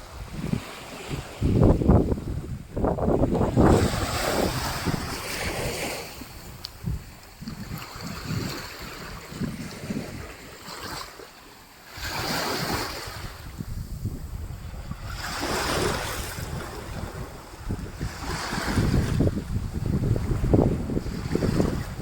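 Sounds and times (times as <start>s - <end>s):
wind buffeting microphone: 0.0s - 11.2s, 11.9s - 22.0s
ocean waves breaking: 0.0s - 22.0s.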